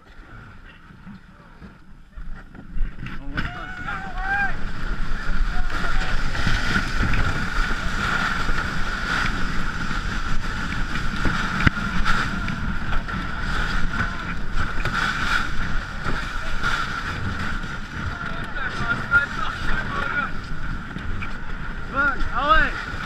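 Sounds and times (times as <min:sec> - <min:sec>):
canoe hull scraping over ice: 0:00.1 - 0:23.0
wind buffeting microphone: 0:00.6 - 0:23.0.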